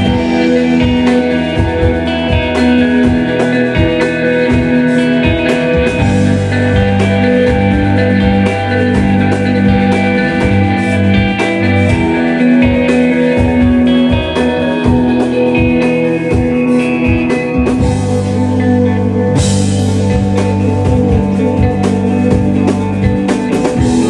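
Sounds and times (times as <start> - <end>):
bass: 0.0 - 24.0
drum kit steady beat: 0.0 - 24.0
sustained electric guitars: 0.0 - 24.0.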